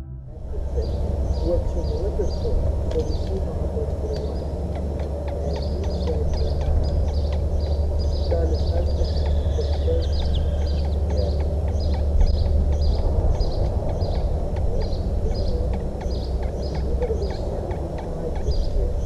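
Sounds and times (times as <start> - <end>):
steady low rumble: 0.0 - 19.0
faint bird chirps: 0.4 - 19.0.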